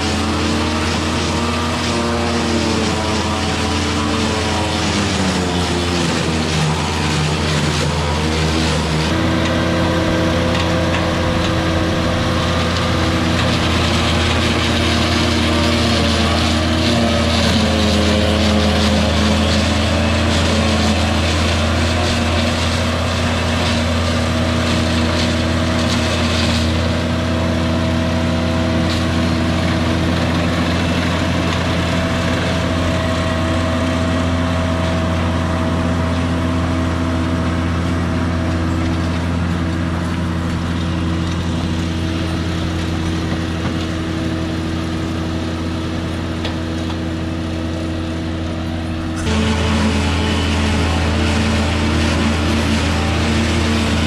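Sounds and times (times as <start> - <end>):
silage chopper engine running: 0.0 - 54.0.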